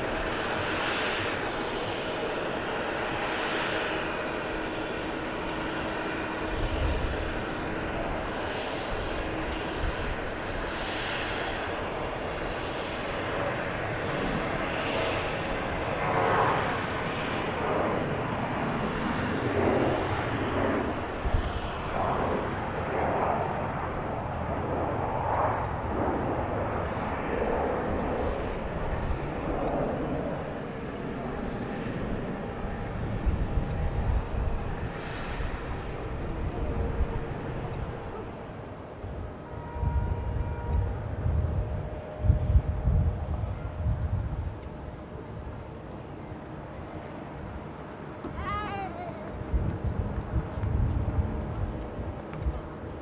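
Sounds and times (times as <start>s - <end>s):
airliner engine rush: 0.0s - 53.0s.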